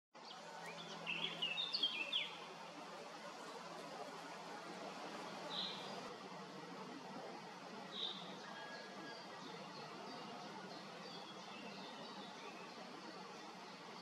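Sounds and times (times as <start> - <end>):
songbird singing: 0.2 - 6.5, 7.8 - 14.0
outdoor background hiss: 0.2 - 14.0.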